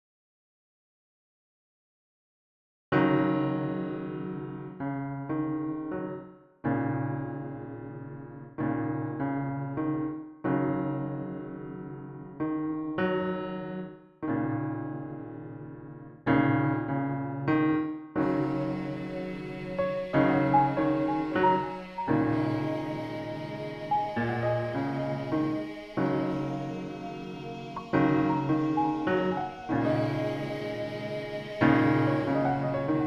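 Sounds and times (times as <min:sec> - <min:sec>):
slow piano chords: 0:03.0 - 0:33.0.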